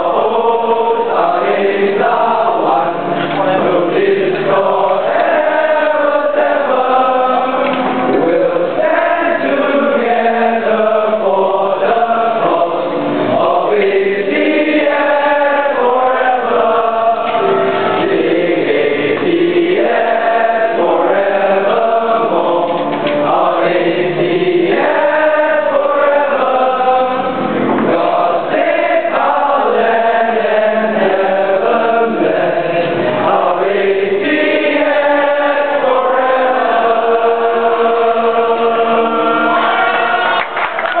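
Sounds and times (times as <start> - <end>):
crowd singing in unison: 0.0 - 41.0.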